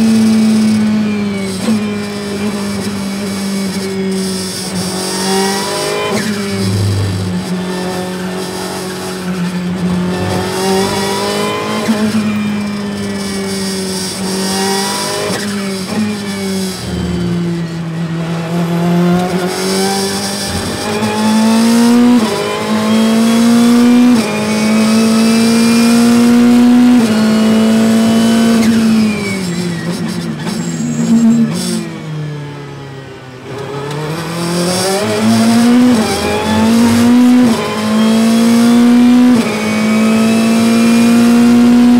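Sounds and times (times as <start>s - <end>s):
race car engine revving: 0.0s - 32.2s, 33.4s - 41.9s.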